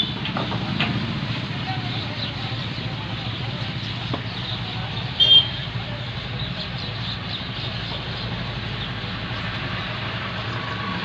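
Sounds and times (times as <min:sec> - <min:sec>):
traffic engine rumble: 0:00.0 - 0:11.0.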